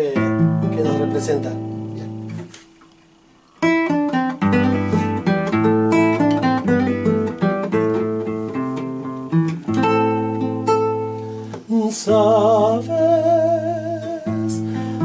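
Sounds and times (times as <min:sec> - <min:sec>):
acoustic guitar plucked melody: 0:00.0 - 0:15.0.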